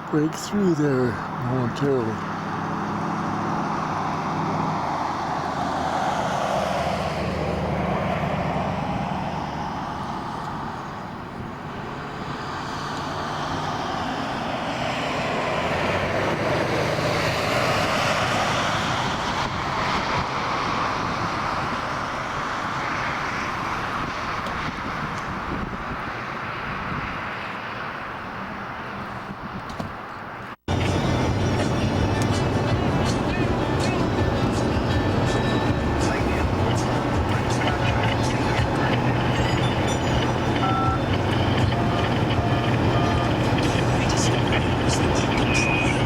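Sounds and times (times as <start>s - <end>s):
vehicle road and engine noise: 0.0s - 46.0s.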